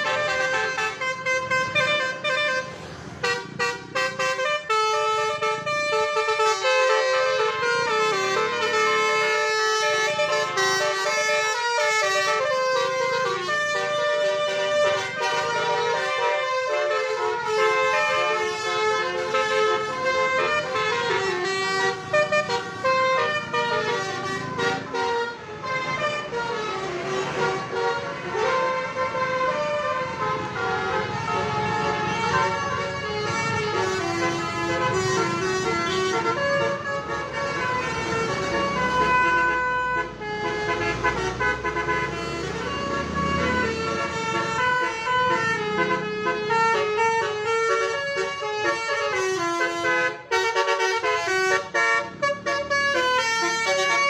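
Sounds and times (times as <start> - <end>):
bus musical horn playing a tune: 0.0 - 54.0.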